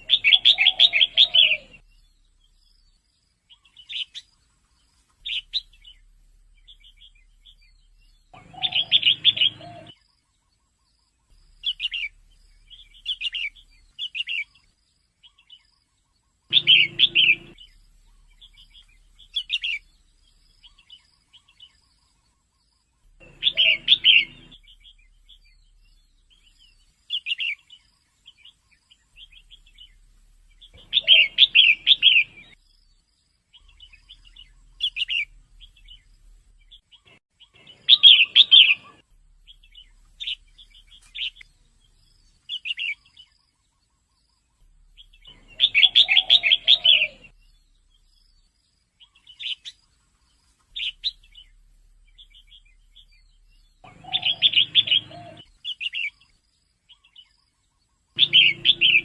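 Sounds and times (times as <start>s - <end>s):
bird chirping calls: 0.0s - 59.0s.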